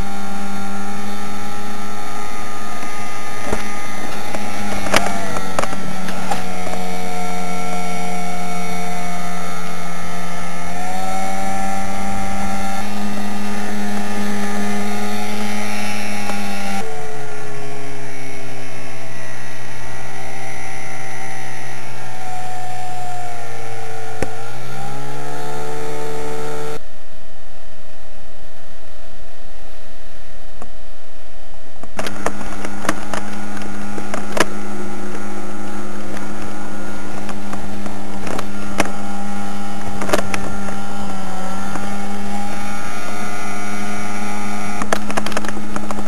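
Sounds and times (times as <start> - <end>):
boat motor running: 0.0 - 26.8, 31.8 - 46.0.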